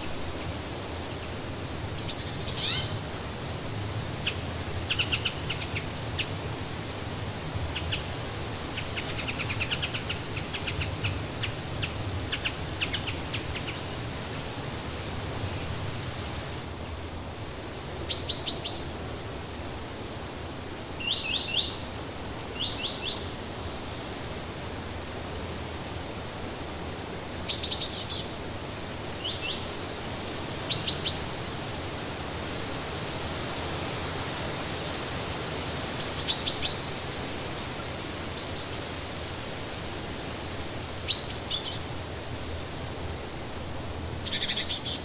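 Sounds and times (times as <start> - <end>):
songbirds chirping: 0.0 - 31.7, 35.9 - 45.0
steady background hiss: 0.0 - 45.0.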